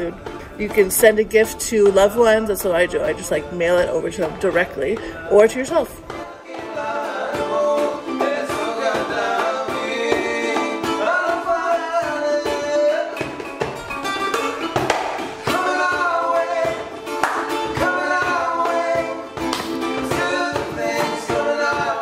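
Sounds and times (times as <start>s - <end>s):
person singing: 0.0s - 13.4s, 15.4s - 22.0s
plucked strings: 0.0s - 22.0s.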